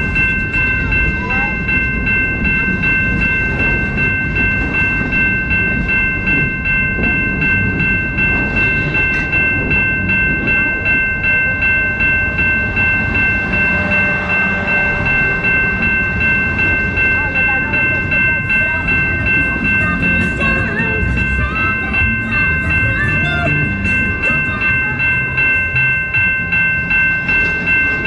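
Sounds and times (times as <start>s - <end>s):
passing train rumble: 0.0s - 28.0s
railway crossing bell ringing: 0.0s - 28.0s.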